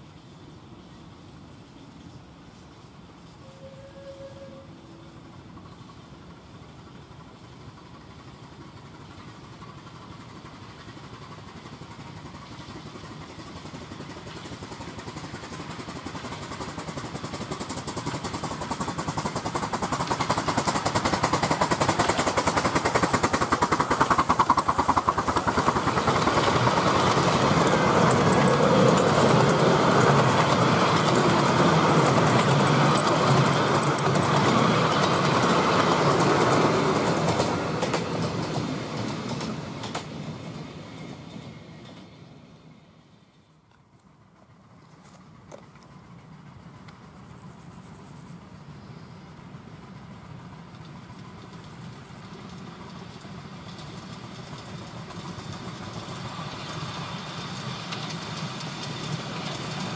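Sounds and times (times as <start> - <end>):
miniature train passing: 0.0 - 59.9.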